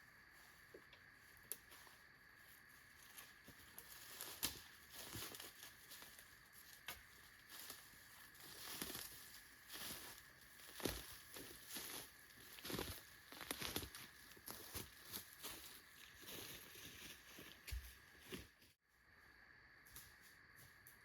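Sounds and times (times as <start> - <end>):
footsteps on forest floor: 0.3 - 18.7.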